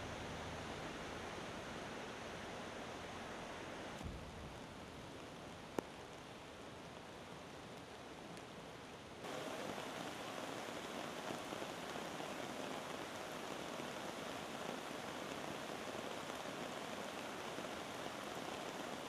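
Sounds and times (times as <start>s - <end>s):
heavy rain hissing: 0.0s - 8.3s, 9.2s - 19.0s.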